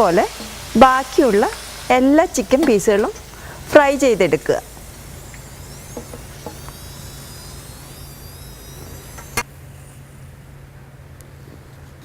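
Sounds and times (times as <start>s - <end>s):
oil sizzling: 0.0s - 10.4s
low steady hum: 0.0s - 12.0s.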